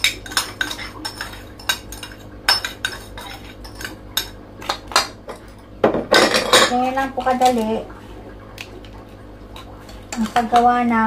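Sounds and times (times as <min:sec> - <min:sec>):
clinks on metal mixing bowl: 0:00.0 - 0:07.7, 0:09.6 - 0:11.0.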